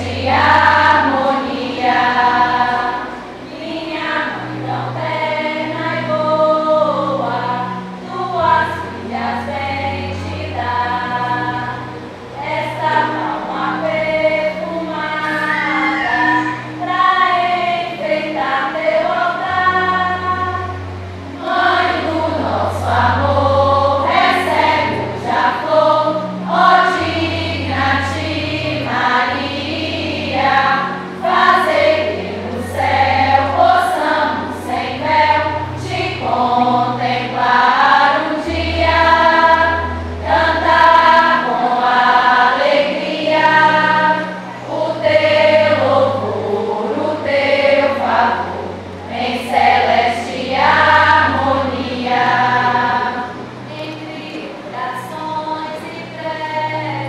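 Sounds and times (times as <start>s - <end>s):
low held bass notes: 0.0s - 57.0s
women singing a hymn: 0.0s - 57.0s.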